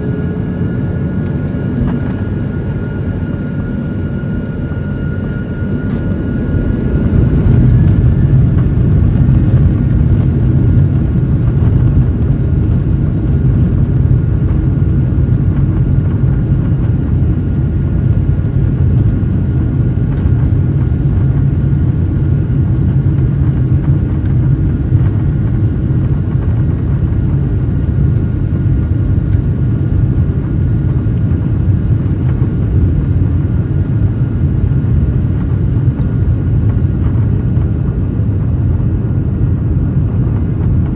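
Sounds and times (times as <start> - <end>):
jet cabin engine rumble: 0.0 - 40.9.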